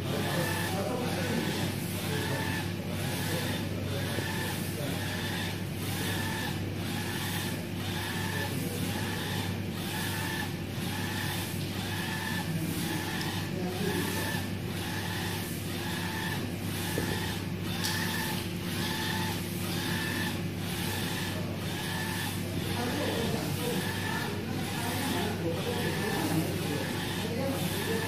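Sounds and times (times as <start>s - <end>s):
printer carriage motor whine: 0.0s - 28.0s
steady machine hum: 0.0s - 28.0s.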